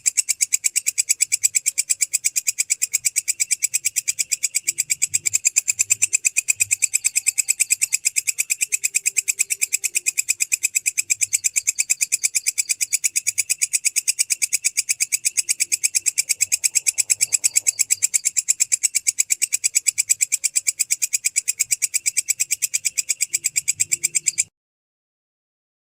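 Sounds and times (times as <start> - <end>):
grasshopper chirping: 0.0 - 24.5.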